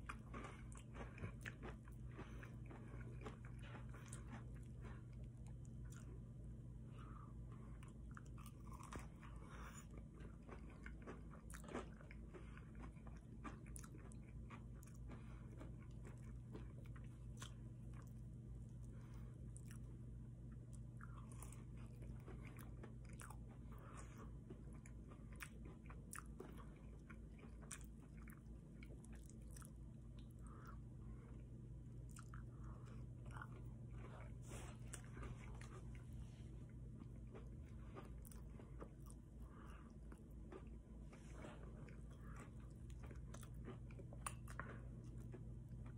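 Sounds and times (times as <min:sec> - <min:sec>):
crunchy chewing: 0:00.0 - 0:19.9, 0:20.5 - 0:45.9
steady low hum: 0:00.0 - 0:45.9.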